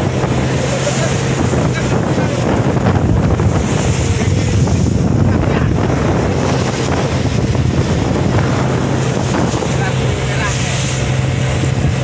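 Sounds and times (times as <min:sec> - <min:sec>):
boat engine running: 0:00.0 - 0:12.0
waves breaking against hull: 0:00.0 - 0:12.0
wind buffeting microphone: 0:00.0 - 0:12.0.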